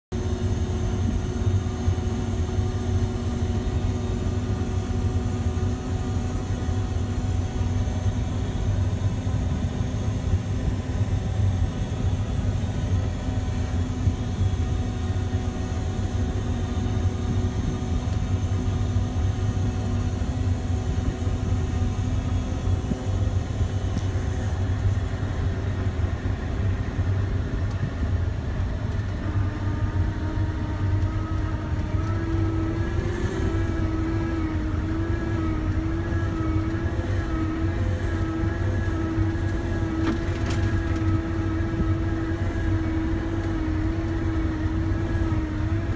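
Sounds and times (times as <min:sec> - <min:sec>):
combine diesel engine drone: 0:00.0 - 0:45.9.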